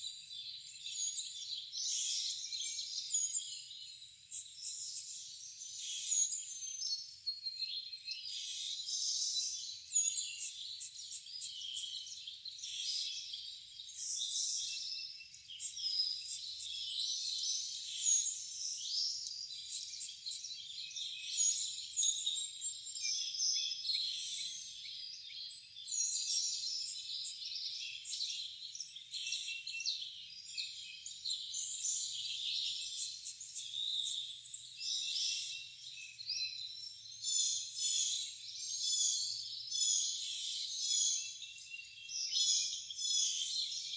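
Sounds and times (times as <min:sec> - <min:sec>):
songbirds chorus: 0:00.0 - 0:43.9.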